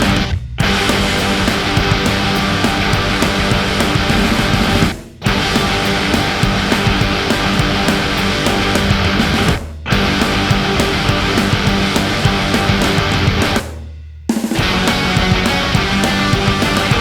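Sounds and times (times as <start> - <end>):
heavy rock music: 0.0 - 13.8, 14.4 - 17.0.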